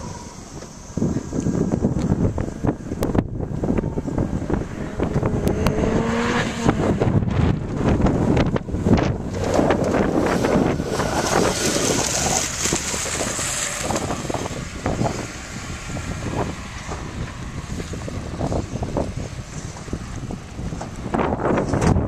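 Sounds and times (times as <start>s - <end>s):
sports car engines running: 0.0s - 22.0s
wind buffeting microphone: 0.0s - 22.0s.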